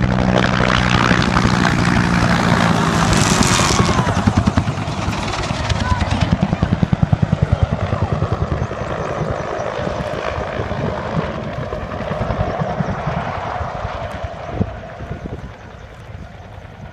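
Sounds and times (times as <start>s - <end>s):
helicopter rotor beating: 0.0s - 16.9s.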